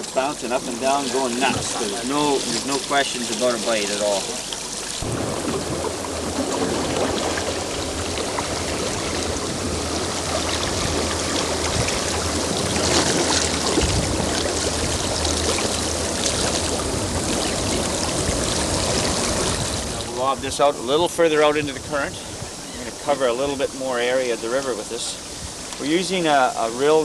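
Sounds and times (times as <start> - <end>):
river current rushing and gurgling: 0.0 - 27.0.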